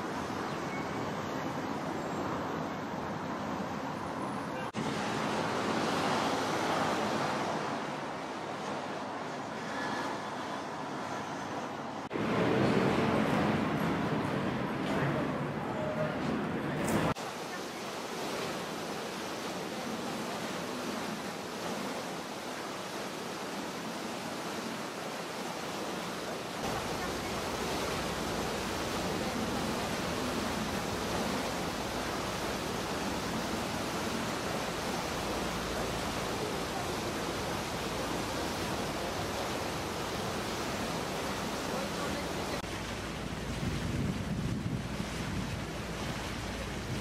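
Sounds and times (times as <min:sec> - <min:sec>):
water and wind rushing: 0:00.0 - 0:47.0.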